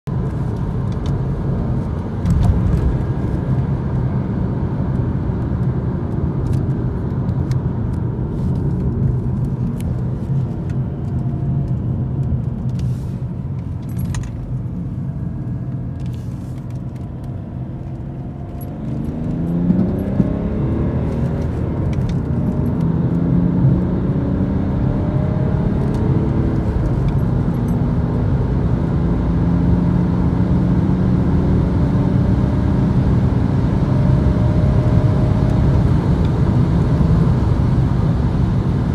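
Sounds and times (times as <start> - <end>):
diesel car engine from inside cabin: 0.1 - 38.9.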